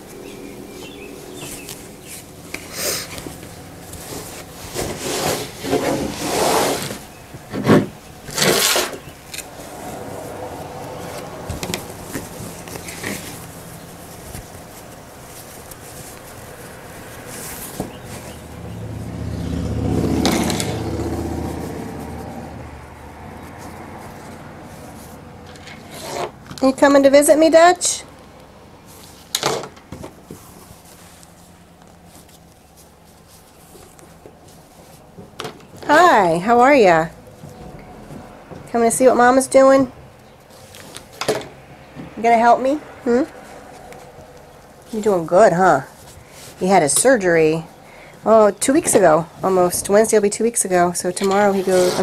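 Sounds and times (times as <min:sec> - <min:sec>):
fabric rustling on a tabletop: 0:00.0 - 0:27.8, 0:28.8 - 0:52.0
passing vehicle engine hum: 0:00.0 - 0:52.0.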